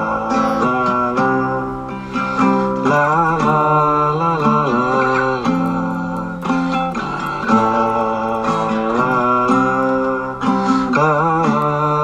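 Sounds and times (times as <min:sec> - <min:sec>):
guitar-led song: 0:00.0 - 0:12.0.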